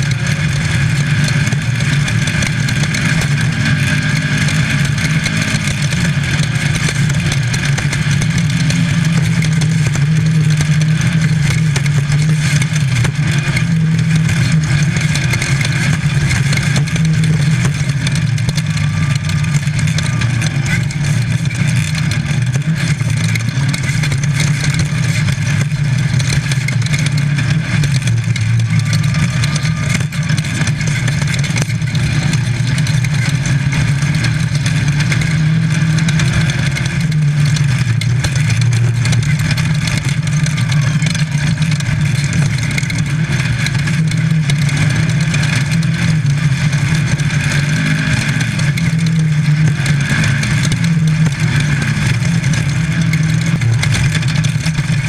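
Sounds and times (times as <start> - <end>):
chassis rattle: 0.0 - 55.0
race car engine under load: 0.0 - 55.0.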